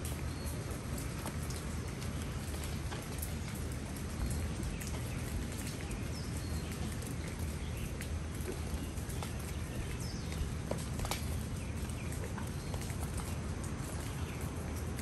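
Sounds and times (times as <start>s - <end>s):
rain hissing on leaves: 0.0s - 15.0s.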